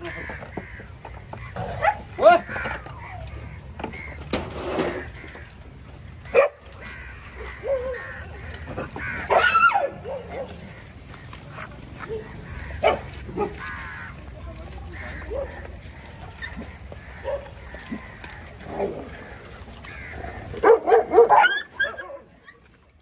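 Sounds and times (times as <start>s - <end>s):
dogs barking and yelping: 0.0s - 14.3s, 14.9s - 23.0s.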